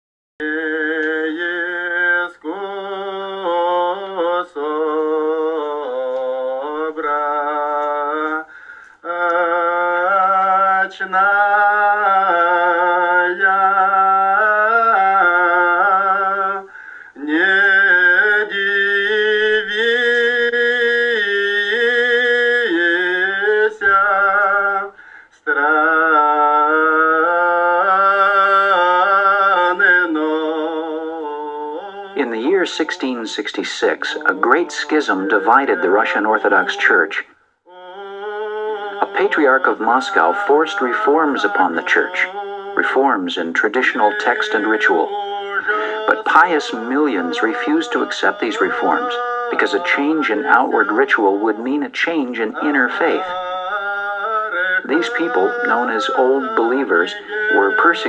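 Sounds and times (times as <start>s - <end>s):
voices singing chant in unison: 0.4s - 58.0s.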